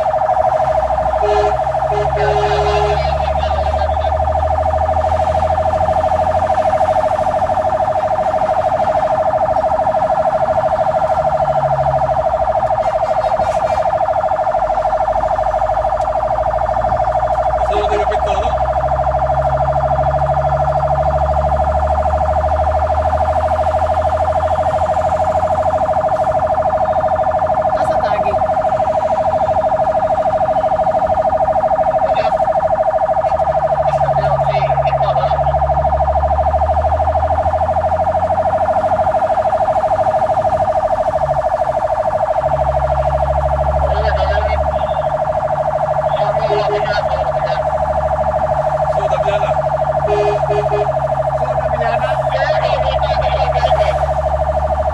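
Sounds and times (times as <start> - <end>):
engine rumble: 0.0 - 54.9
fire engine siren: 0.0 - 54.9.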